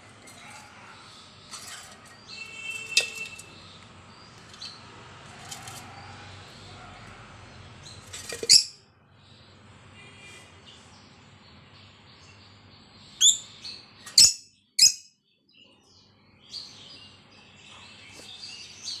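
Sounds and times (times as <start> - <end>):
lovebirds chirping: 0.0 - 19.0.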